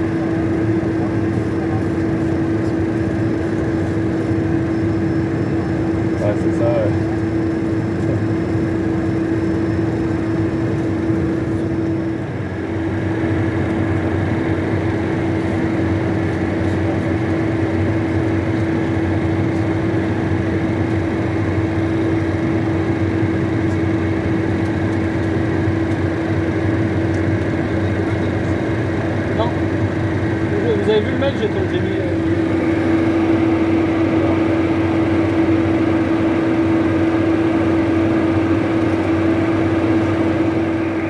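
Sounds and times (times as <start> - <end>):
jet engine and airflow drone: 0.0 - 41.0.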